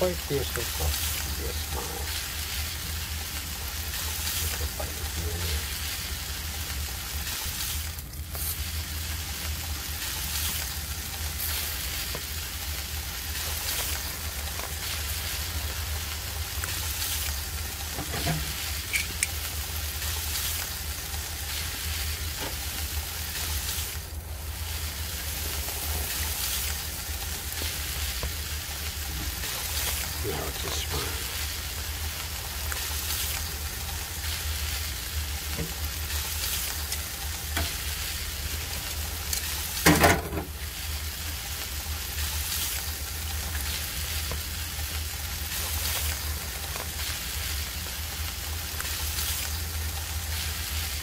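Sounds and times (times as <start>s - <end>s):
meat sizzling on a charcoal grill: 0.0s - 51.0s.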